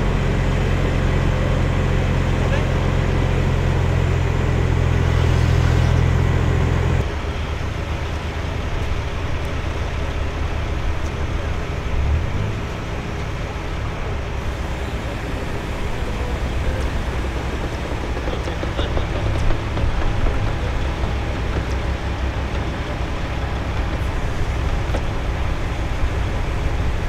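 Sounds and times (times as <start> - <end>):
truck engine revving and idling: 0.0 - 27.0.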